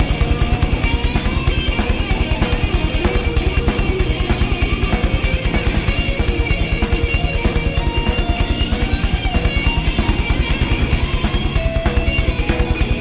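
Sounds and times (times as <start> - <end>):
distorted electric guitars: 0.0 - 13.0
rapid kick drum beats: 0.0 - 13.0.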